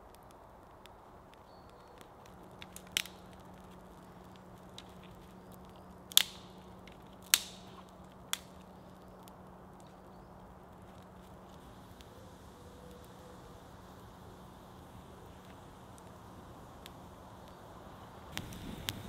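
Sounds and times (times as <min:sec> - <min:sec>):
campfire wood cracking and popping: 0:00.0 - 0:19.0.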